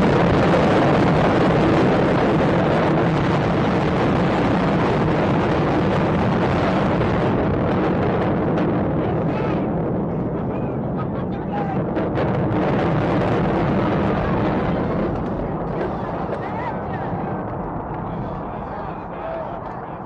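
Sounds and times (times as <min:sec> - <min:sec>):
demolition explosions roaring: 0:00.0 - 0:20.0.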